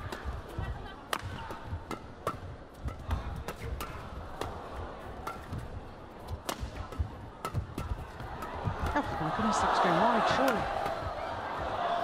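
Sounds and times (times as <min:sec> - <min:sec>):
rackets striking shuttlecock: 0:00.0 - 0:11.4.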